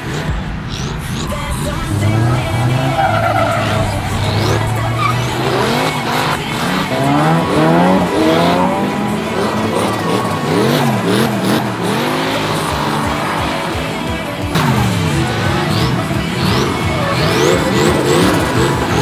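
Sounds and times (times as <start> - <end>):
car engines revving: 0.0 - 19.0
tyres skidding on wet track: 1.6 - 19.0.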